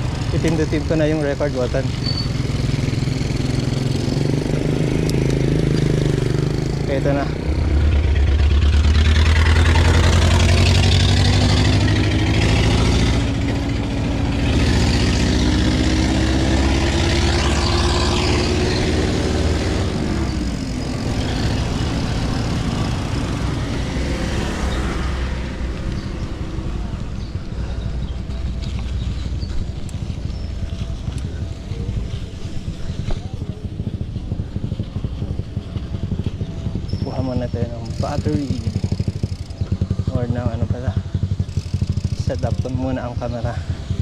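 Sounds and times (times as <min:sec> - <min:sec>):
traffic hum: 0:00.0 - 0:44.0
vehicle engine running: 0:00.0 - 0:44.0.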